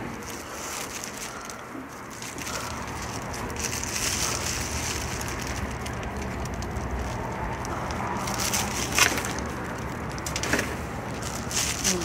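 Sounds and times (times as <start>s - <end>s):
plastic wrapping crinkling: 0.0s - 12.0s
sharp plastic crackle: 0.0s - 12.0s.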